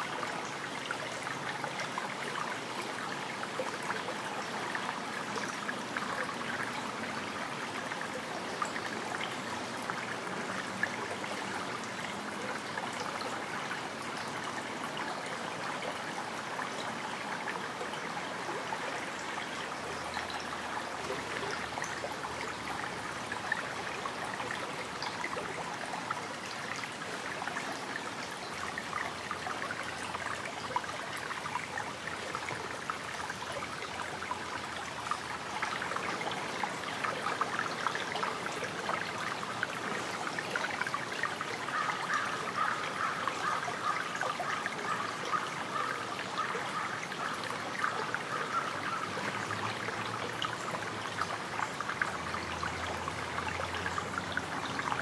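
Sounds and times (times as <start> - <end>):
brook babbling over stones: 0.0 - 55.0.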